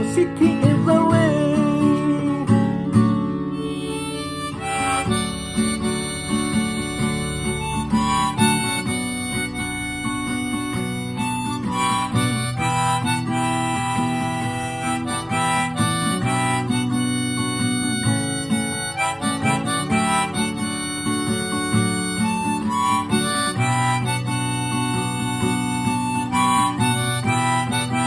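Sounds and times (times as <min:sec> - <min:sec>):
harmonica melody: 0:00.0 - 0:28.0
strummed acoustic guitar: 0:00.0 - 0:28.0.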